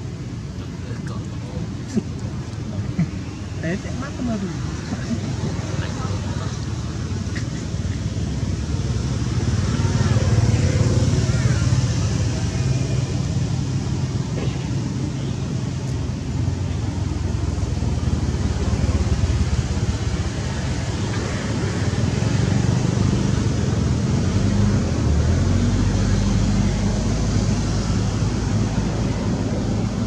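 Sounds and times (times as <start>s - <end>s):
engine running with low hum: 0.0s - 30.0s.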